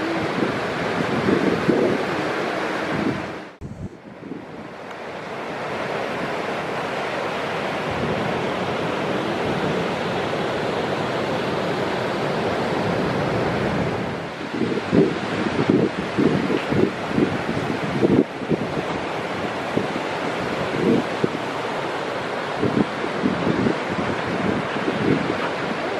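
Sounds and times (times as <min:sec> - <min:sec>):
ocean waves breaking: 0:00.0 - 0:25.9
wind buffeting microphone: 0:00.0 - 0:25.9.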